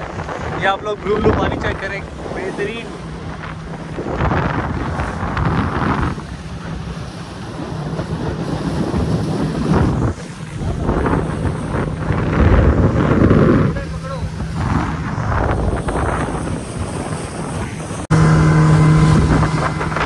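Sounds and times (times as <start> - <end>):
boat motor humming: 0.0 - 20.0
water rushing along hull: 0.0 - 20.0
wind buffeting microphone: 0.0 - 20.0.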